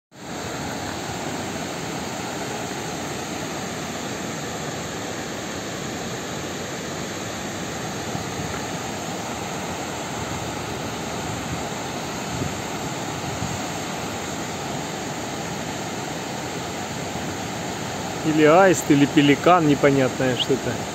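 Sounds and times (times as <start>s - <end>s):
river water rushing over weir: 0.2s - 20.9s.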